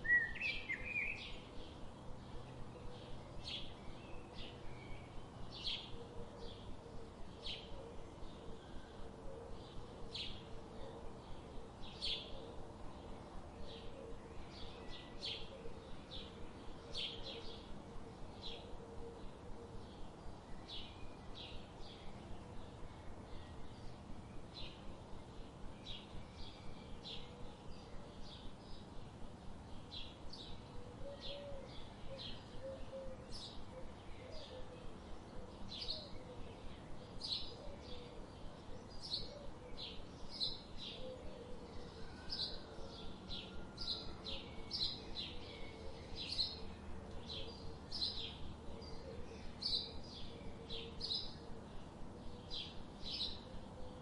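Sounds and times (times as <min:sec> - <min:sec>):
low background hiss: 0:00.0 - 0:54.0
songbirds chirping: 0:00.0 - 0:54.0.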